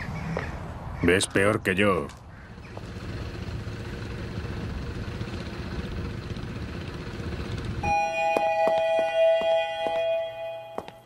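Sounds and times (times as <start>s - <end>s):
ferry engine rumbling: 0.0s - 11.0s.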